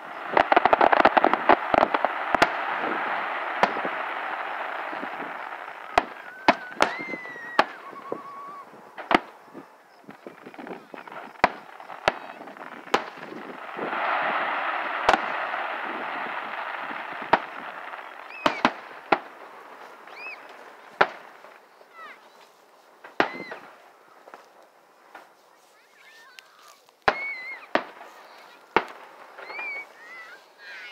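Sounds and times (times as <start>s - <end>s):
distant firework bangs: 0.0s - 30.9s.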